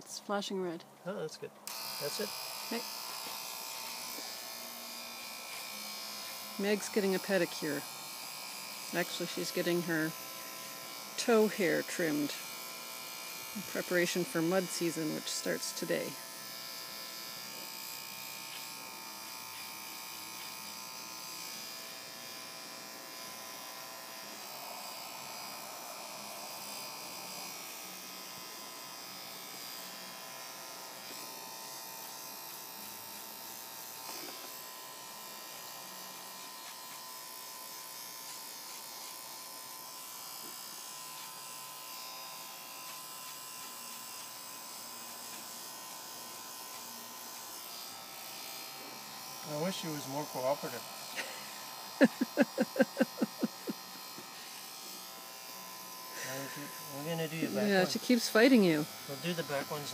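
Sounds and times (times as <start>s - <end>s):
electric hair clipper buzzing: 1.6s - 59.9s.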